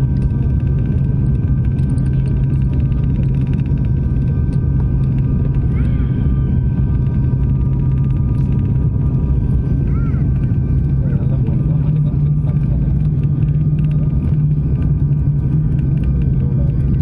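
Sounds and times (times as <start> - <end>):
aircraft low rumble: 0.0 - 17.0.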